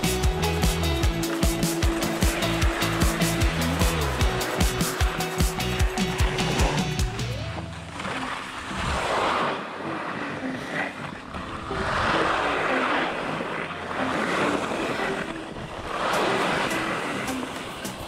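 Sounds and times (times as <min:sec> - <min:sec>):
skis scraping on hard snow: 0:01.2 - 0:07.2, 0:07.9 - 0:18.0.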